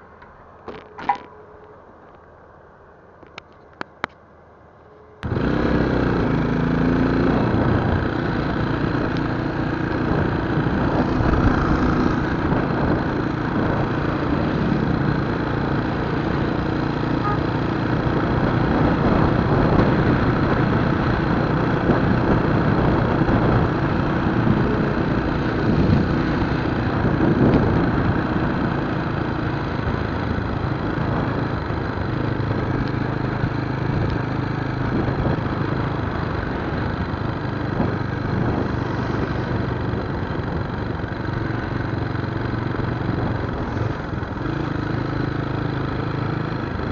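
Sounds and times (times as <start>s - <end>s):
motorcycle engine running: 5.2s - 46.9s.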